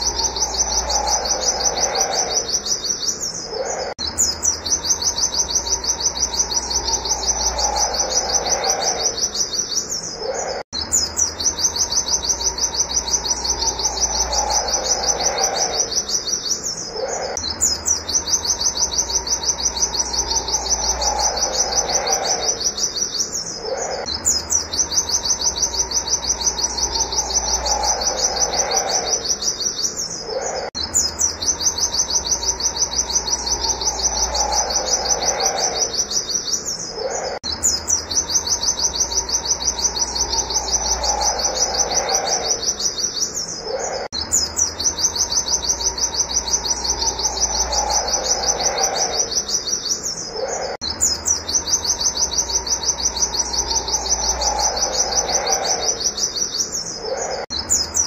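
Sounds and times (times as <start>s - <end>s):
bird singing high notes: 0.0s - 58.0s.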